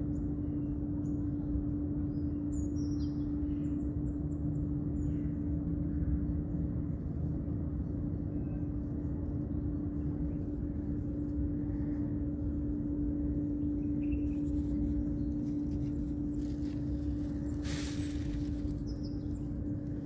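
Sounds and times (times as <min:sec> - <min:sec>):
motor running with droning hum: 0:00.0 - 0:20.0.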